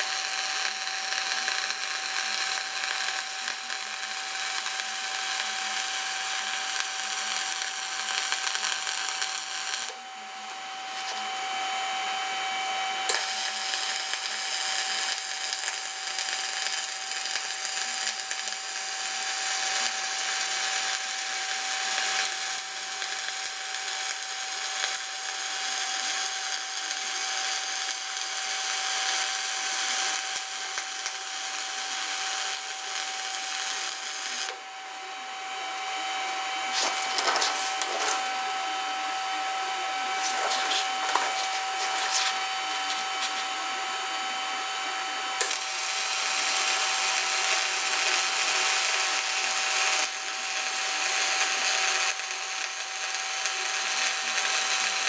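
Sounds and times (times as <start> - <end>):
welding arc crackling: 0.0 - 10.0, 13.1 - 34.6, 36.7 - 38.4, 40.1 - 43.5, 45.4 - 55.0.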